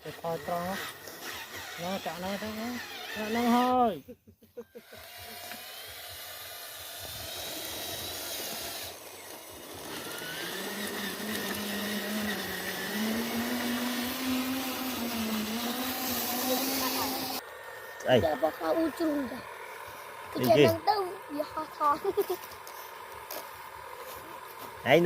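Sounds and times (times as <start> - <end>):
small electric motor whining: 0.0 - 4.0, 4.6 - 25.0.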